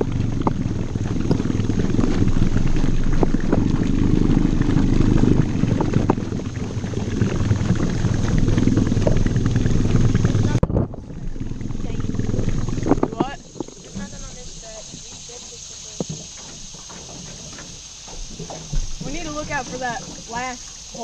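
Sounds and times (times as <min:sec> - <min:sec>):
outboard motor running: 0:00.0 - 0:21.0
water splashing against hull: 0:00.0 - 0:21.0.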